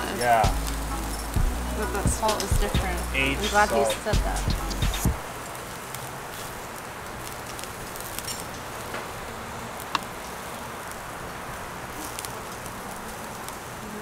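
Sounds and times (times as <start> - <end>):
restaurant background hiss: 0.0 - 14.0.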